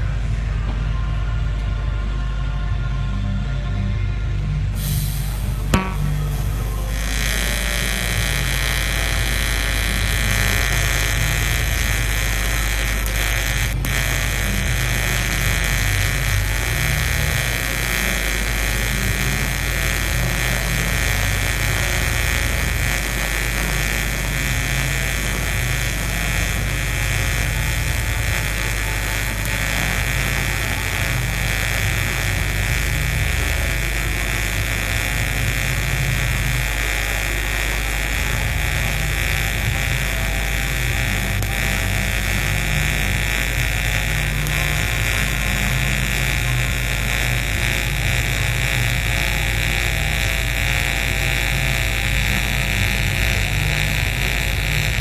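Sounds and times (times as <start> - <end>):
welding arc buzzing hiss: 4.8 - 55.0
welding arc strike click: 4.8 - 55.0.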